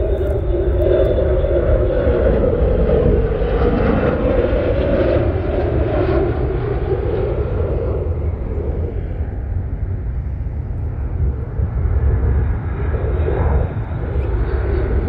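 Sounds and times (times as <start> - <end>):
fighter jet engines overhead: 0.0 - 15.0
wind on microphone: 0.0 - 15.0.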